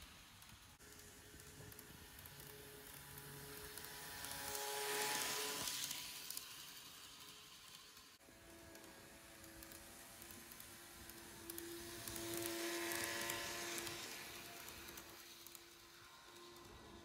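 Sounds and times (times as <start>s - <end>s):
faint motor whine: 0.0s - 17.0s
model train wheels rolling: 0.0s - 17.0s.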